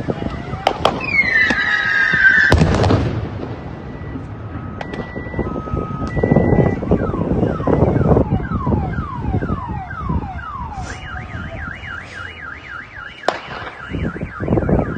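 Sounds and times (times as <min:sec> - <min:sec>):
car alarm whooping and warbling: 0:00.1 - 0:02.6, 0:03.6 - 0:14.9.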